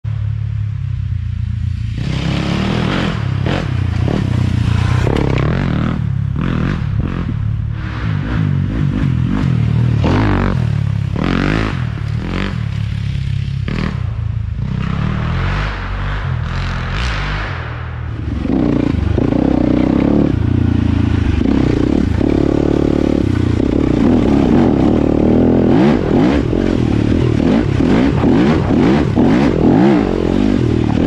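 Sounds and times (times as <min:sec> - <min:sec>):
dirt bike engine revving: 0:01.7 - 0:31.0.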